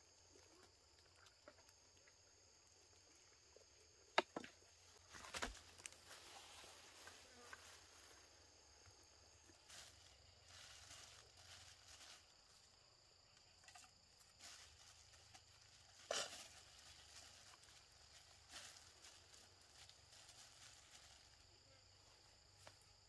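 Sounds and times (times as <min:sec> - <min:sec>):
high insect hum: 0:00.0 - 0:23.0.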